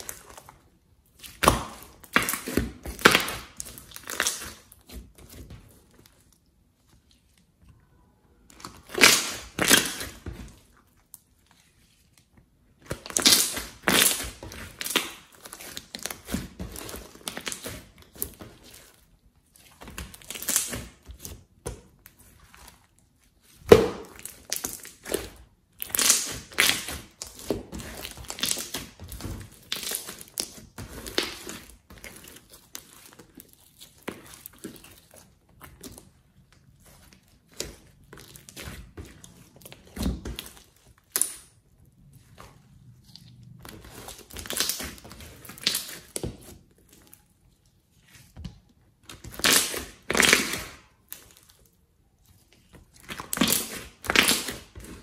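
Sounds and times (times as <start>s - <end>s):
slime crackling: 0.0s - 55.0s.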